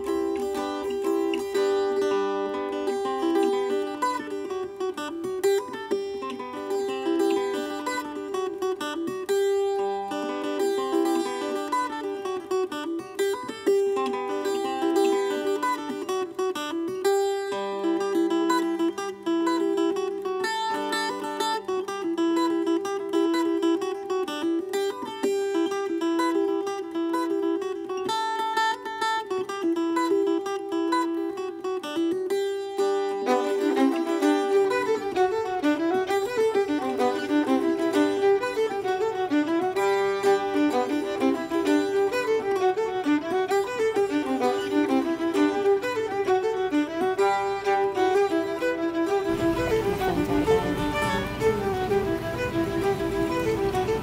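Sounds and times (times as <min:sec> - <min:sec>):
plucked acoustic guitar music: 0:00.0 - 0:54.0.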